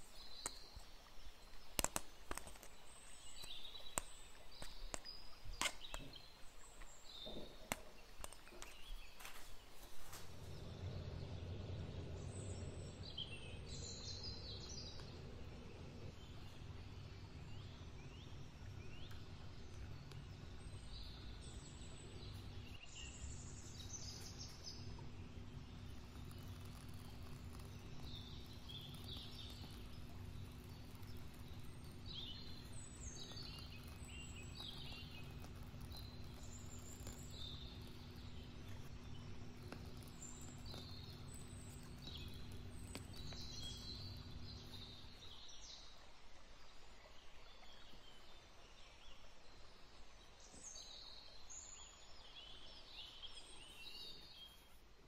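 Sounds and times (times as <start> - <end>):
small birds chirping and trilling: 0.0 - 54.9
low steady hum: 0.0 - 55.0.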